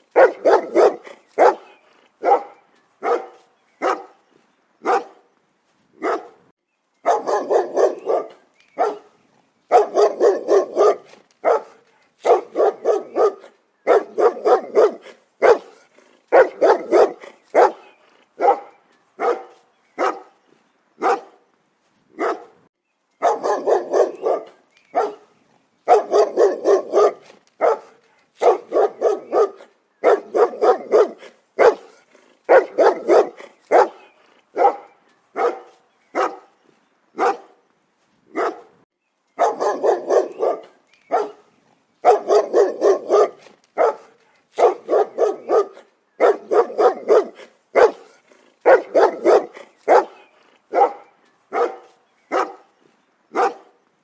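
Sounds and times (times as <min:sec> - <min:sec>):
dog barking: 0:00.1 - 0:04.2, 0:04.8 - 0:05.2, 0:06.0 - 0:20.4, 0:21.0 - 0:21.4, 0:22.2 - 0:22.6, 0:23.2 - 0:25.3, 0:25.9 - 0:36.5, 0:37.2 - 0:37.6, 0:38.3 - 0:38.8, 0:39.4 - 0:52.7, 0:53.3 - 0:53.8.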